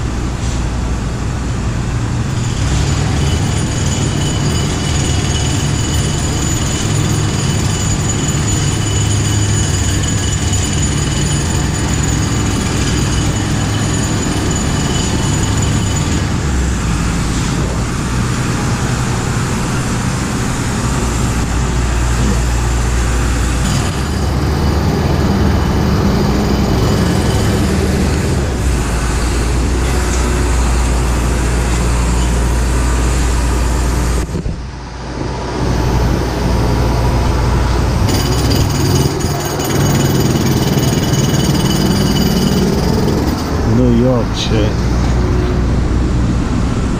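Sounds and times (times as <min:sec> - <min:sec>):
vehicle rumble: 0:00.0 - 0:46.9.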